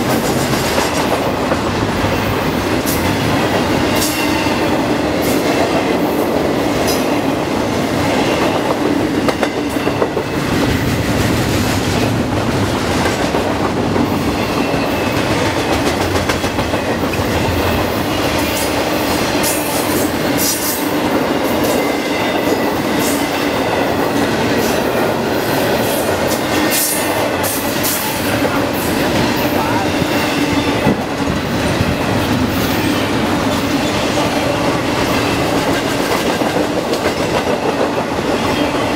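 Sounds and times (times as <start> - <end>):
train clattering past: 0.0 - 38.9.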